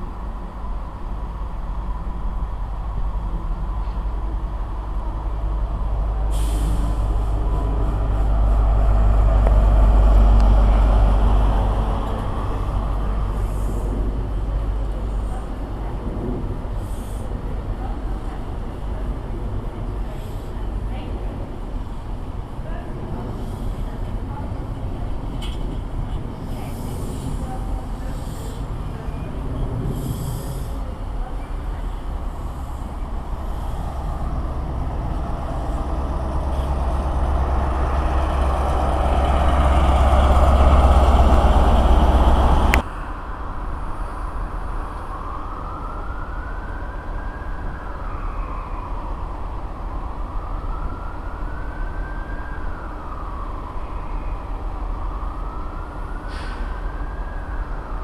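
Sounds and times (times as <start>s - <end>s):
faint train whine: 0.0s - 58.0s
train rumbling: 0.0s - 58.0s.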